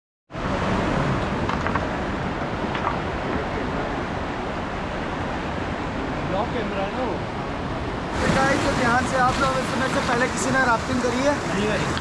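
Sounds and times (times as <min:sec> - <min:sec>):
river rapids rushing: 0:00.4 - 0:12.0.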